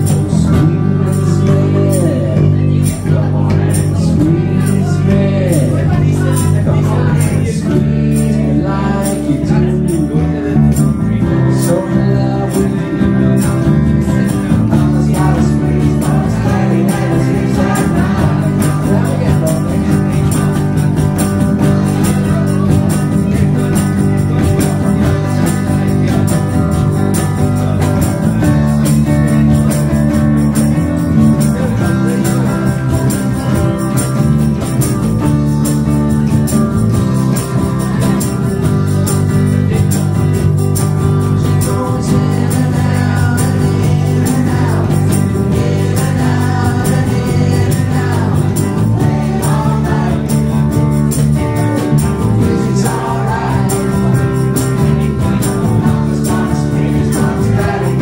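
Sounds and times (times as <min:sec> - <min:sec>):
blues band playing: 0:00.0 - 0:58.0.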